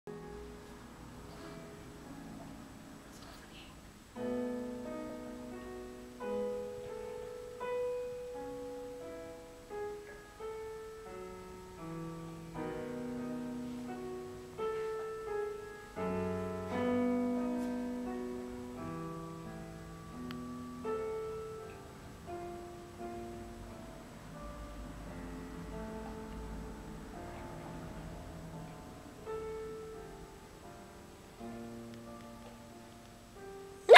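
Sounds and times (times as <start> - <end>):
slow calm piano music: 0.1 - 33.9.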